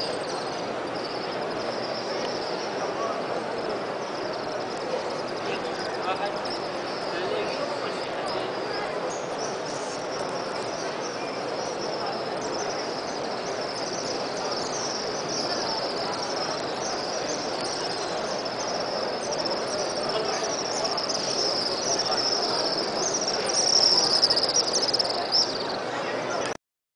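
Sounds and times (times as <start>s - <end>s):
swifts screaming: 0.0s - 25.8s
murmur of large crowd: 0.0s - 26.6s.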